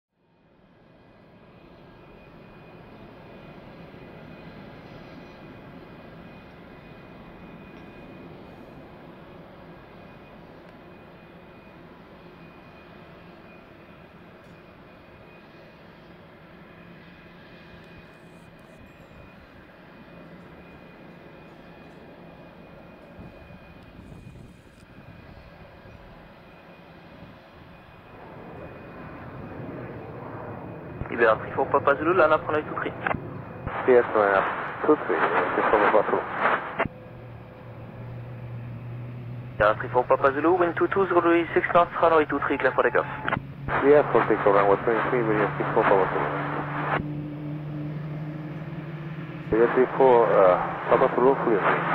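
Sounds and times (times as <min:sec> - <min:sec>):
faint engine whine: 0:00.1 - 0:51.9
jet engines rumbling at taxi power: 0:00.4 - 0:51.9.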